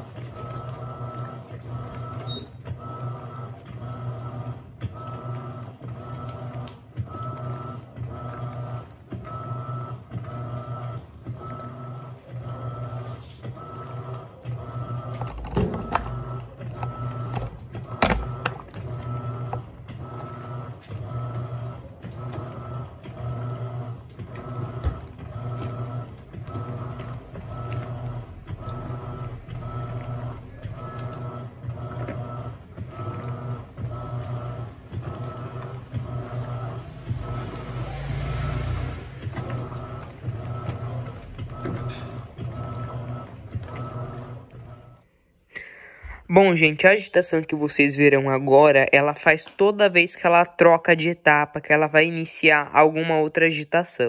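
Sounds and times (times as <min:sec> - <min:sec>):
washing machine motor humming: 0:00.0 - 0:53.6.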